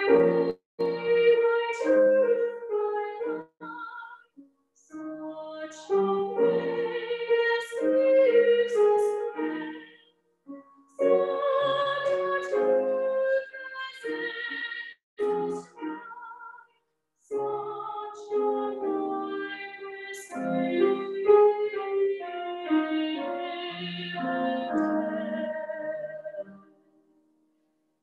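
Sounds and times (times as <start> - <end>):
woman singing a hymn: 0.0 - 4.2, 5.2 - 10.0, 11.0 - 16.7, 17.3 - 26.5.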